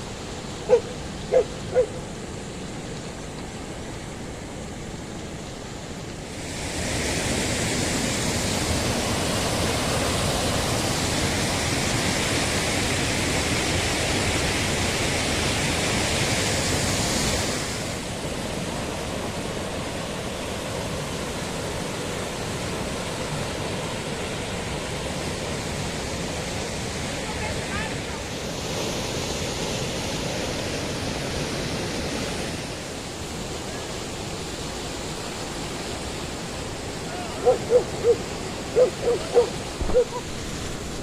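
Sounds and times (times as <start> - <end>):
creek water rushing: 0.0 - 41.0.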